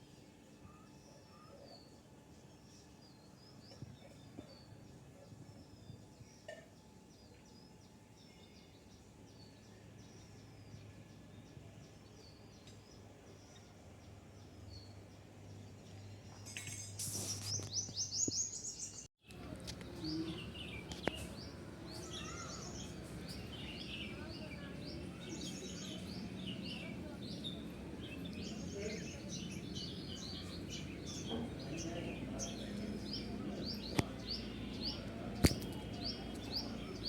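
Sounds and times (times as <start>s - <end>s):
birds chirping: 0.6s - 37.0s.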